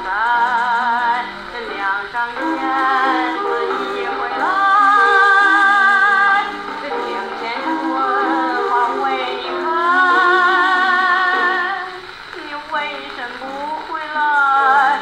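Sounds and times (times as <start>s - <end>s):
woman singing on old gramophone record: 0.0s - 15.0s.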